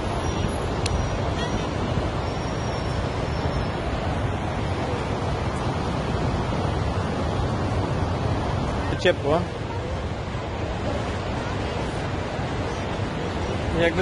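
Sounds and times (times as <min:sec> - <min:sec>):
sea surf washing: 0:00.0 - 0:14.0.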